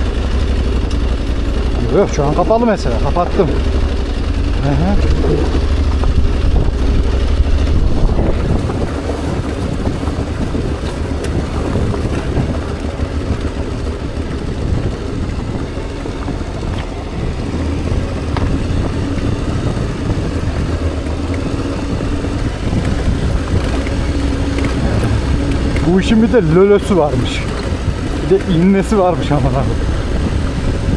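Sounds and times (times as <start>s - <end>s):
motorcycle running: 0.0s - 30.9s
wind rumble on microphone: 0.0s - 30.9s.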